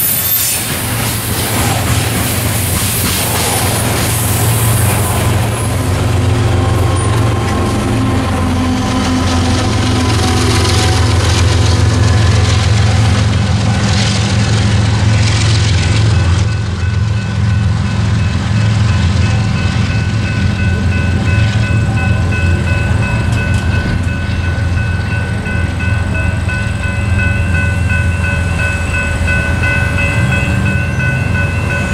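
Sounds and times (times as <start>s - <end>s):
freight train rumbling: 0.0s - 31.9s
railroad crossing bell ringing: 0.0s - 31.9s
train wheel noise: 0.0s - 31.9s.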